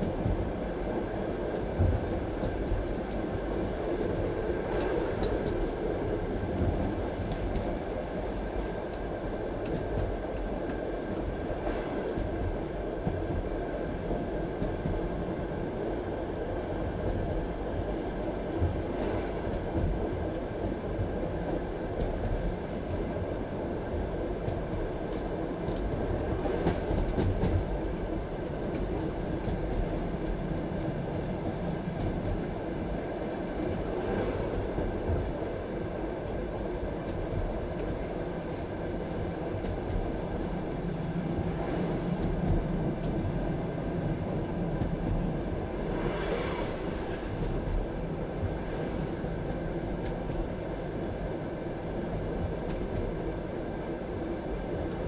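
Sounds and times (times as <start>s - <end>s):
train wheels rumbling on rails: 0.0s - 55.0s
train clattering: 1.4s - 15.3s, 16.8s - 55.0s.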